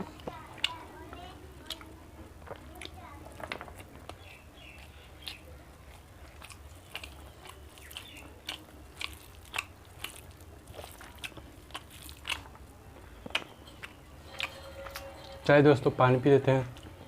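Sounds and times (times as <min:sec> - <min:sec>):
person chewing with crunches: 0:01.6 - 0:15.4.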